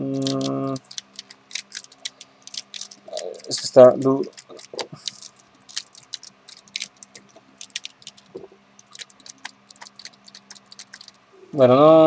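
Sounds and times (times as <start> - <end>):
plastic toy mechanism clicking: 0.2 - 11.2.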